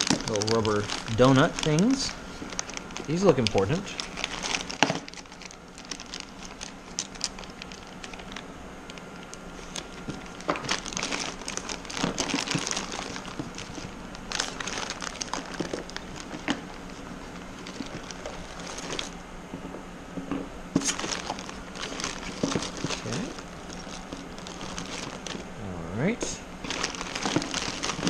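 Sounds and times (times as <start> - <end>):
plastic bags crinkling: 0.0 - 19.2, 20.8 - 25.6, 26.6 - 28.0.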